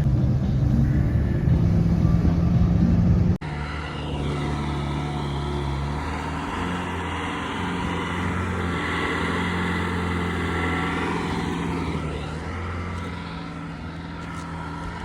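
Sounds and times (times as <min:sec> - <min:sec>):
heavy machinery engine running: 0:00.0 - 0:15.0
quieter engine running: 0:00.0 - 0:15.0.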